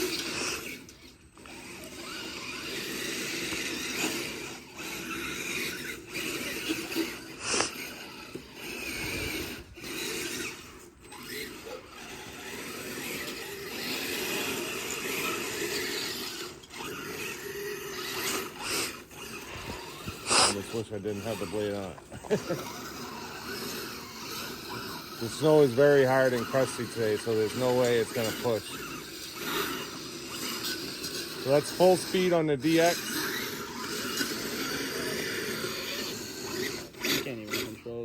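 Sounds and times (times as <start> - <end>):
toy tracked vehicle rattling: 0.0 - 38.0.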